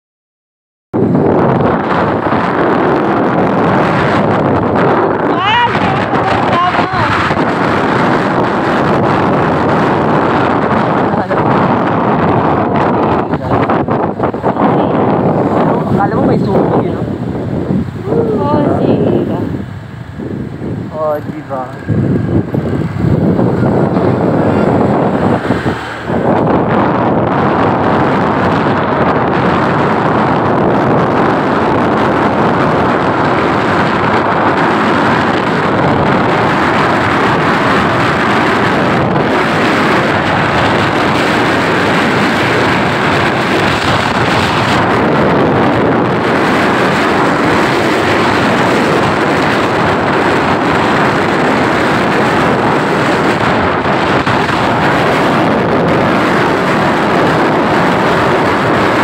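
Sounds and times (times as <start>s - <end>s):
road noise: 0.9s - 59.0s
wind rushing over microphone: 0.9s - 59.0s
vehicle engine noise: 1.0s - 59.0s.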